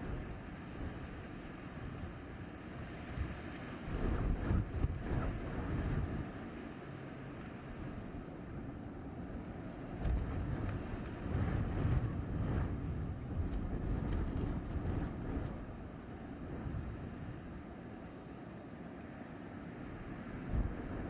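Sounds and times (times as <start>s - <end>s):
blizzard wind gusting: 0.0s - 21.0s.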